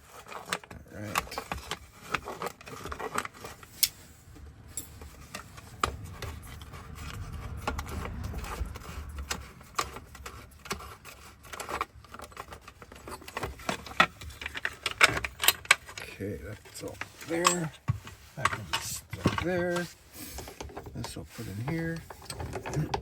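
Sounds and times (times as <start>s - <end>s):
metal parts clicking and clinking: 0.0s - 4.1s, 4.7s - 23.0s.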